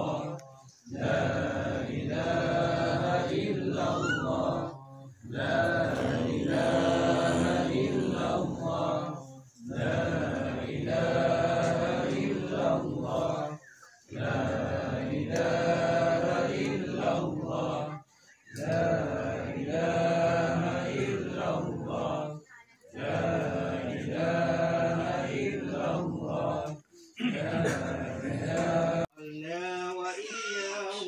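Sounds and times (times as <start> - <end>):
men chanting in unison: 0.0 - 18.0, 18.6 - 22.4, 23.0 - 31.0.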